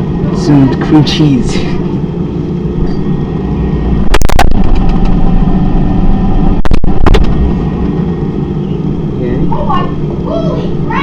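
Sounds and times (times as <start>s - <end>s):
refrigerator humming: 0.0s - 11.0s.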